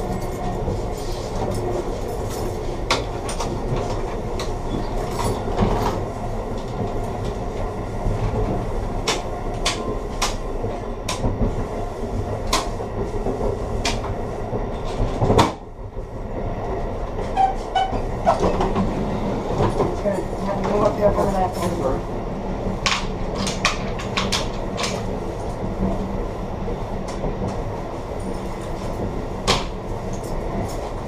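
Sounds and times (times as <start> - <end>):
train rush: 0.0 - 31.0
train wheels rumbling on rail: 0.0 - 31.0.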